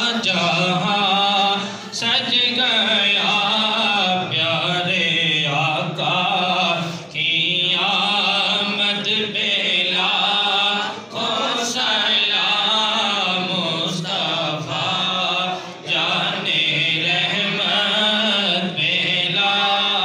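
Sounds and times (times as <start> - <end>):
men chanting: 0.0 - 20.0.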